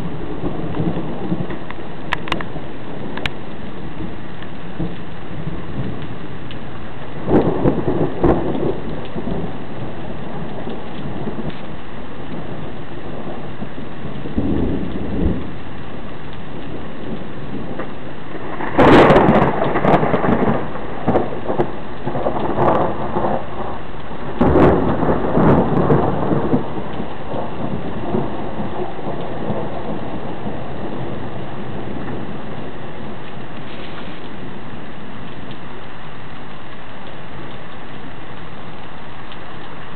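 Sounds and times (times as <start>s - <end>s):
heavy rain hissing: 0.0s - 39.9s
thunder crack rolling: 0.0s - 39.9s.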